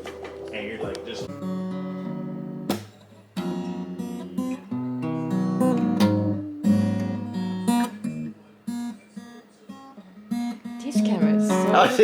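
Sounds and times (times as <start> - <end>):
guitar strummed chords: 0.0 - 12.0.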